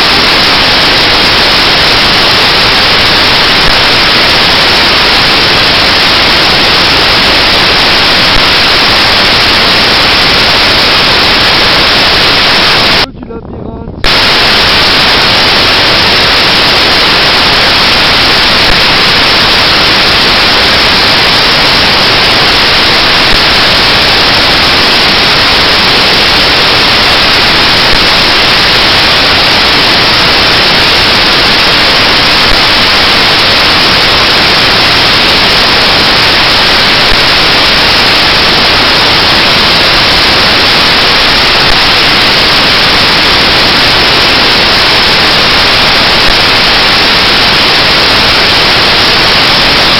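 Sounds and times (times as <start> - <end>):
static hiss: 0.0 - 13.2, 14.0 - 49.9.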